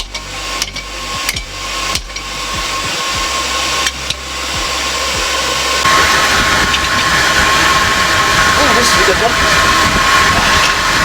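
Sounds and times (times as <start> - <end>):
air blower whining: 0.0 - 11.0.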